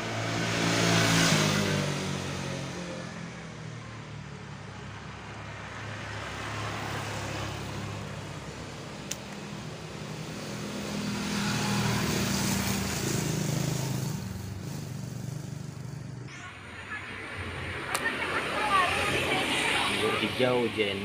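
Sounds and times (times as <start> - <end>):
vehicle engine passing: 0.0 - 3.4, 5.1 - 21.0.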